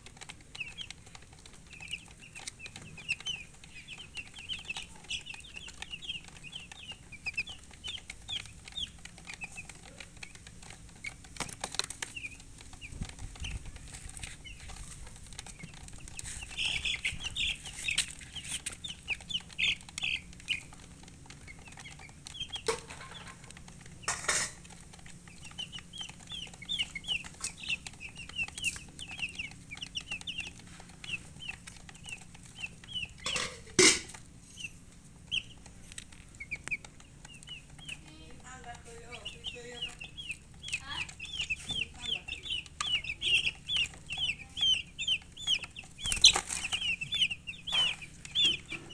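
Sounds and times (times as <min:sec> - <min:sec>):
chicks peeping: 0:00.0 - 0:48.9.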